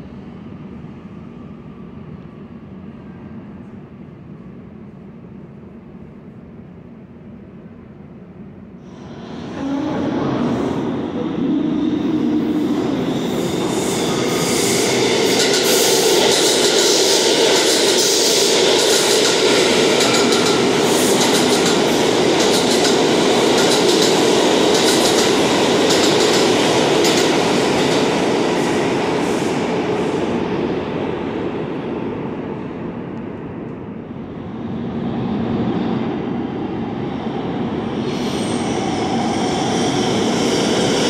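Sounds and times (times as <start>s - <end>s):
subway train rumble: 0.0s - 41.0s.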